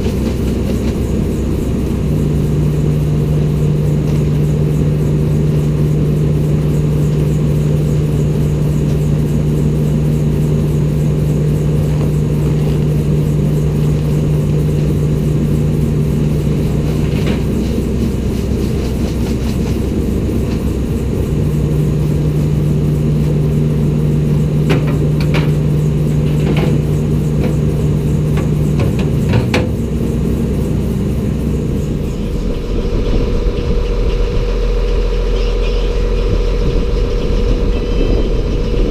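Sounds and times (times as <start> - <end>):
engine driving feed grinder: 0.0 - 38.9.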